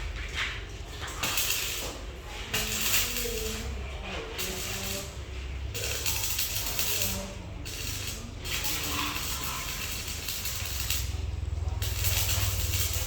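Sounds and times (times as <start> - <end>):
arc welding crackling hiss: 1.1 - 13.0.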